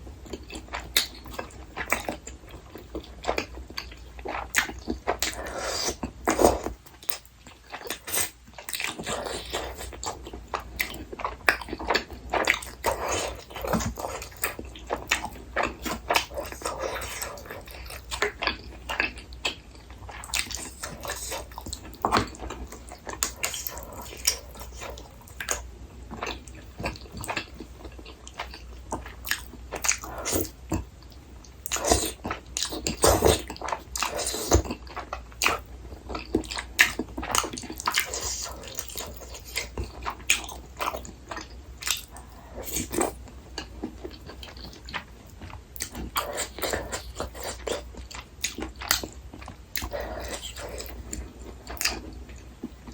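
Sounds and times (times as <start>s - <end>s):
person chewing food: 0.1s - 52.9s.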